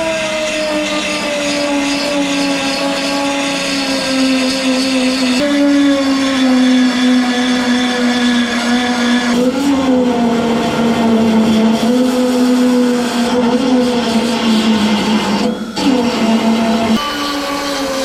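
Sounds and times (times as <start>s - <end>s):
rotary power tool cutting sheet metal: 0.0s - 18.0s.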